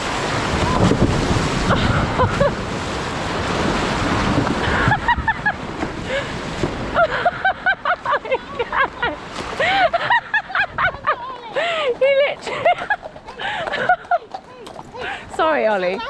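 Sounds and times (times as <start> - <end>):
wind buffeting microphone: 0.0 - 7.5, 9.2 - 16.0
waterfall rushing and splashing: 0.0 - 13.7.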